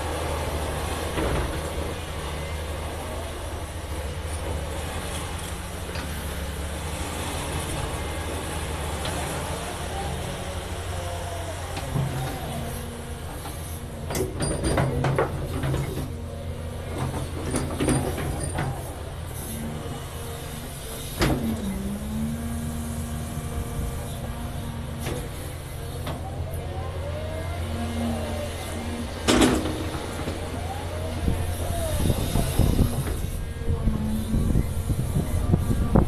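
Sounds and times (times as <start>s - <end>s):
diesel engine drone: 0.0s - 36.0s
hydraulic whine: 0.0s - 36.0s.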